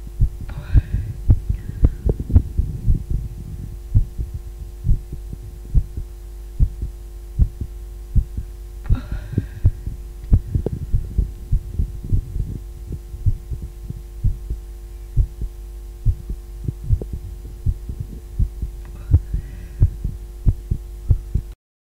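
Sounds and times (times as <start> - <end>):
heartbeat thumping: 0.0 - 21.6
steady hum: 0.0 - 21.6.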